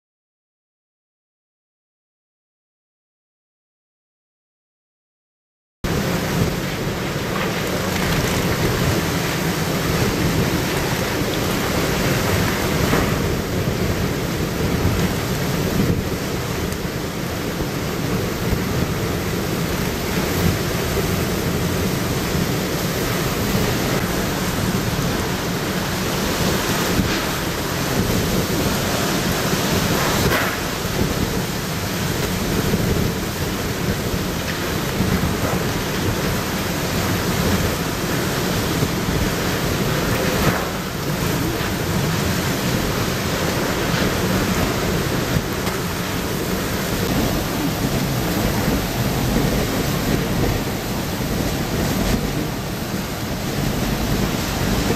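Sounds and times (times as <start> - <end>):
strong wind: 5.8 - 54.9
torrential rain: 5.8 - 54.9.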